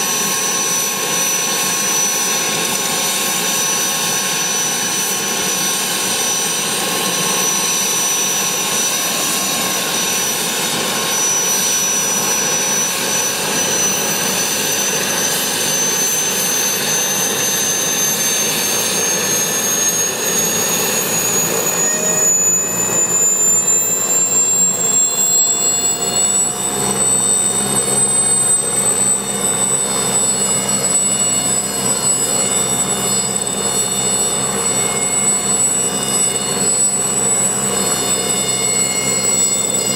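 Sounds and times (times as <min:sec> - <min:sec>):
helicopter turbine engine whine: 0:00.0 - 0:39.9
lower turbine whine: 0:00.0 - 0:39.9.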